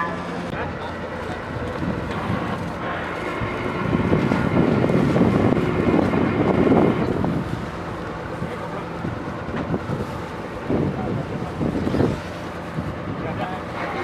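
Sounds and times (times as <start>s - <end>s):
drilling rig engine running: 0.0s - 14.0s.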